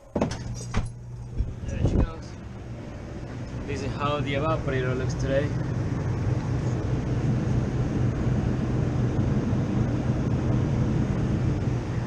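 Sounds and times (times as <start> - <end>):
low motor hum: 0.0 - 12.0
fans rushing air: 0.3 - 12.0.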